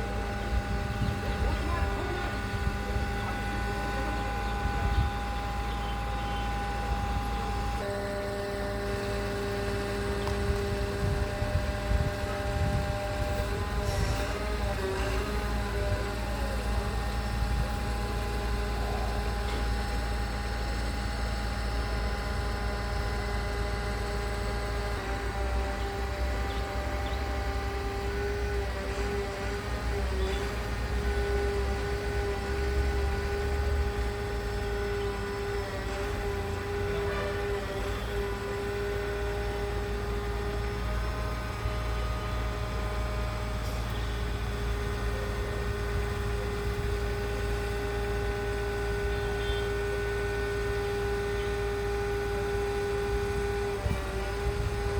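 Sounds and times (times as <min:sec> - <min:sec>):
concrete pump engine rumble: 0:00.0 - 0:54.9
mechanical whine: 0:00.0 - 0:54.9.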